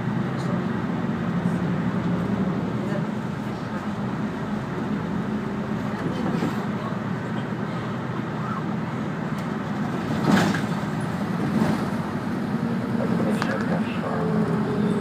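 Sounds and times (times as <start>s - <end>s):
bus engine and road hum: 0.0s - 15.0s.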